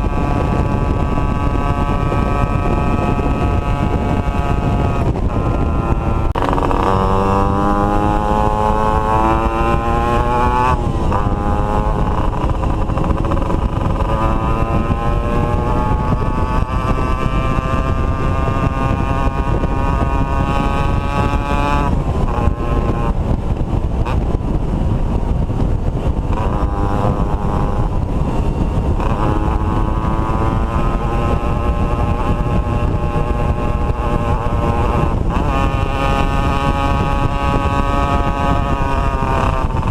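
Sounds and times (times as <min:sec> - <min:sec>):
steady rushing noise: 0:00.0 - 0:39.9
two-stroke motorcycle engine: 0:00.0 - 0:39.9.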